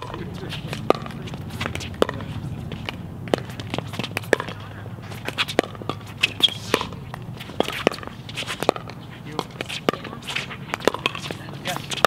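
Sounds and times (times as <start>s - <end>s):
court shoes scuffing: 0.0s - 12.0s
paddles hitting plastic ball: 0.0s - 12.0s.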